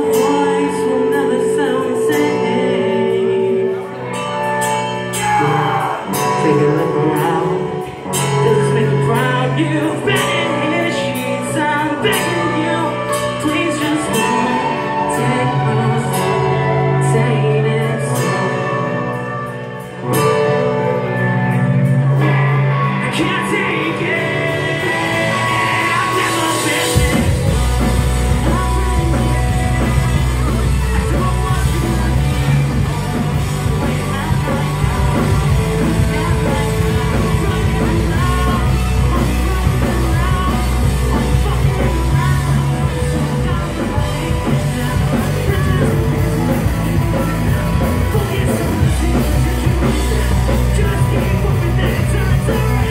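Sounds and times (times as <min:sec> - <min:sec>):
sung and shouted vocals: 0:00.0 - 0:19.4, 0:22.3 - 0:52.9
heavy bass: 0:00.0 - 0:52.9
live rock band playing: 0:00.0 - 0:52.9.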